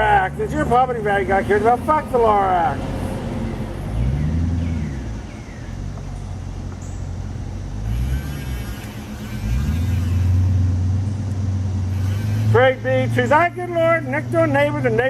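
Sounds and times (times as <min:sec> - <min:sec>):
road traffic noise: 0:00.0 - 0:15.0
vehicle engine revving: 0:00.0 - 0:15.0.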